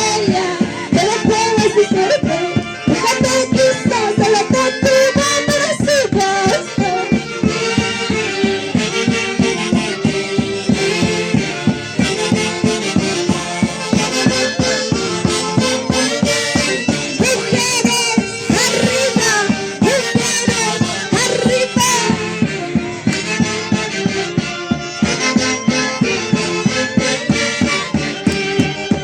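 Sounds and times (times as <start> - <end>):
reedy wind instrument melody: 0.0 - 29.0
steady percussive beat: 0.0 - 29.0.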